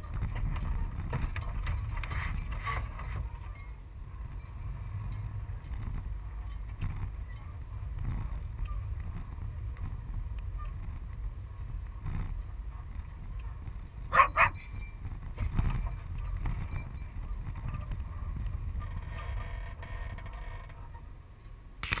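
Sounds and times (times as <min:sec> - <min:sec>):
van engine rumble inside cab: 0:00.0 - 0:21.8.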